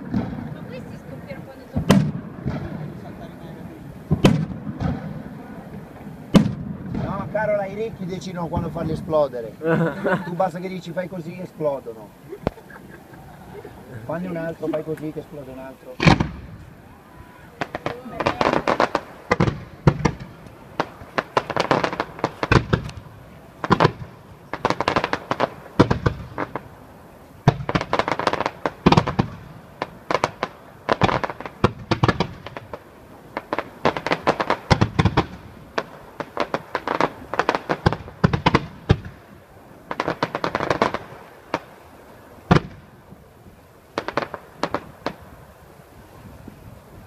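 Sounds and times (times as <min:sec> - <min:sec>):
fireworks bangs and bursts: 0:00.0 - 0:09.6, 0:14.4 - 0:46.2.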